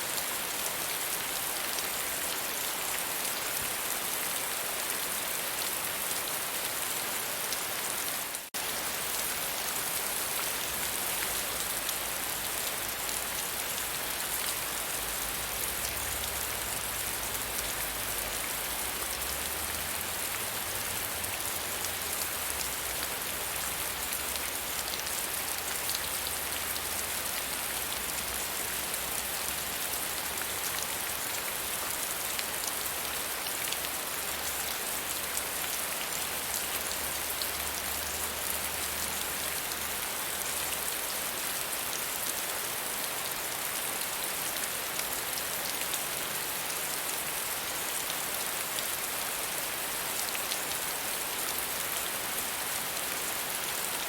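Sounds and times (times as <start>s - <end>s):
soft rain falling: 0.0s - 54.0s.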